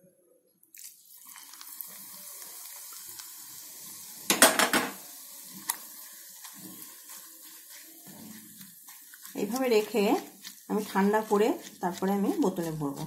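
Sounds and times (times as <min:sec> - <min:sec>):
hot oil sizzling: 0:00.8 - 0:13.0.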